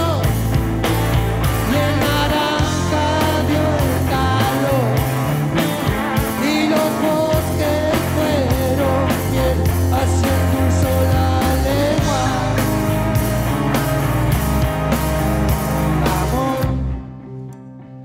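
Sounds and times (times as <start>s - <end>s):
drum kit: 0.0s - 16.9s
electric bass: 0.0s - 18.0s
electric guitar lead melody: 0.0s - 18.0s.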